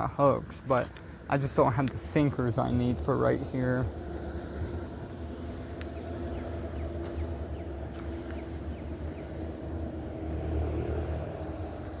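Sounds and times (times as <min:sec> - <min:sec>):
faint hum: 0:00.0 - 0:12.0
low mechanical rumble: 0:00.0 - 0:12.0.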